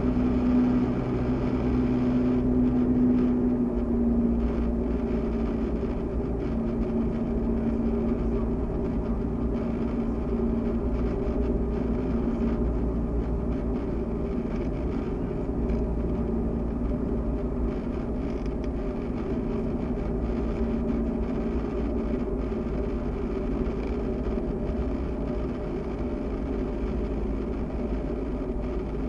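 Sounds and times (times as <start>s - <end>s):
airplane engine droning: 0.0s - 29.0s.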